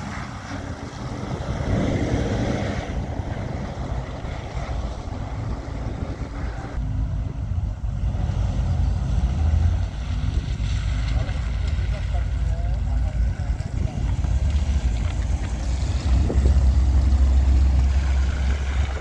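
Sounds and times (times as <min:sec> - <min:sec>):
car engines running: 0:00.0 - 0:19.0
wind rumble on microphone: 0:00.0 - 0:19.0.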